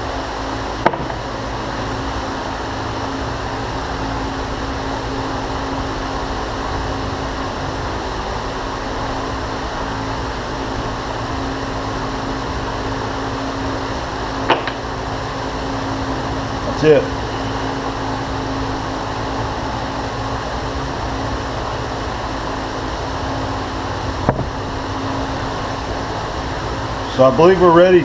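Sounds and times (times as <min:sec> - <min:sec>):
fan humming: 0:00.0 - 0:28.0.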